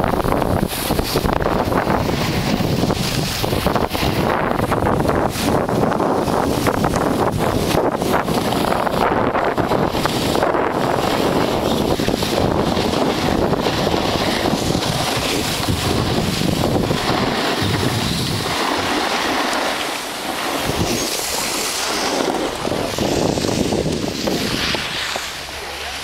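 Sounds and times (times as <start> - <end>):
wind buffeting microphone: 0.0 - 25.5
skis scraping over snow: 0.0 - 26.0.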